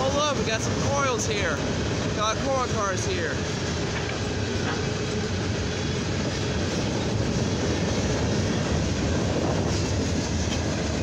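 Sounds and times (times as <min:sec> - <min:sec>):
train wheels rumbling and rattling: 0:00.0 - 0:11.0.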